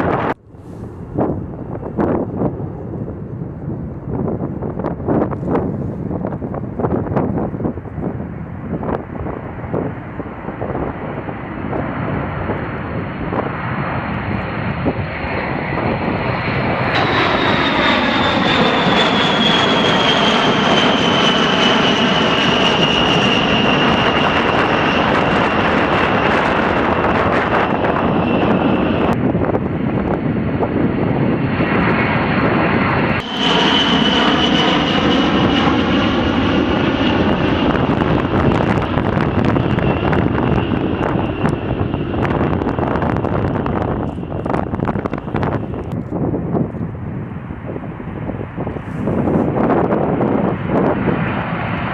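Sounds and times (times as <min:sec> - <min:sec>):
jet engines whining: 0:08.6 - 0:51.9.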